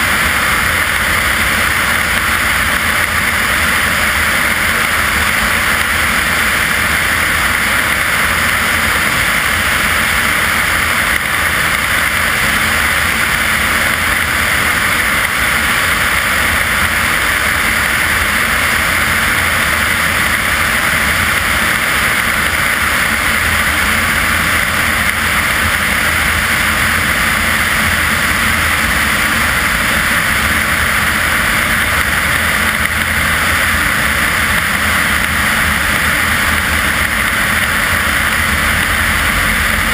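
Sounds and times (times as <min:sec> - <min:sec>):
plane engine and propeller drone: 0:00.0 - 0:39.9.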